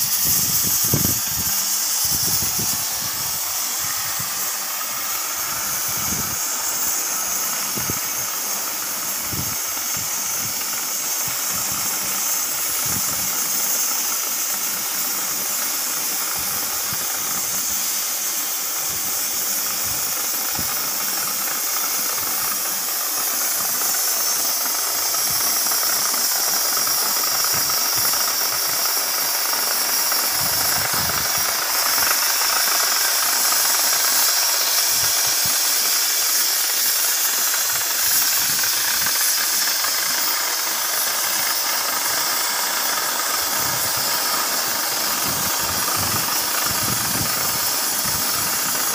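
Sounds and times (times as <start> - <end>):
cutting torch hissing: 0.0 - 48.9.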